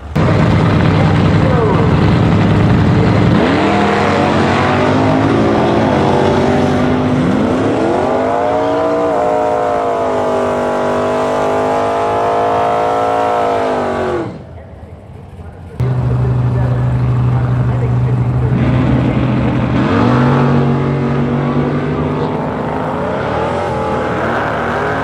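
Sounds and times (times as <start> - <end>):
drag racing cars at full throttle: 0.0 - 25.0.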